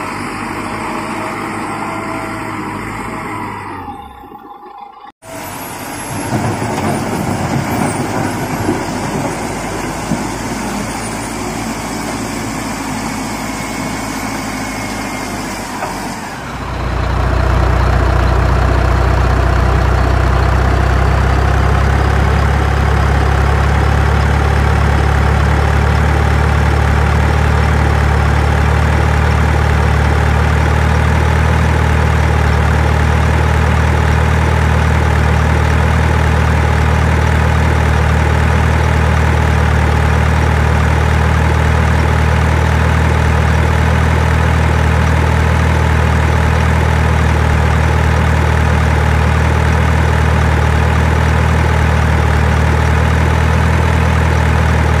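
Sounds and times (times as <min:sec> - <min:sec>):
heavy engine idling: 0:00.0 - 0:04.4, 0:05.2 - 0:55.0.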